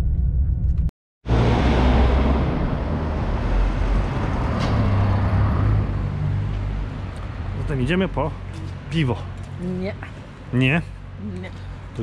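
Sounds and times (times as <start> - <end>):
car engine rumble: 0.0 - 12.0
tyre and road noise: 0.0 - 12.0.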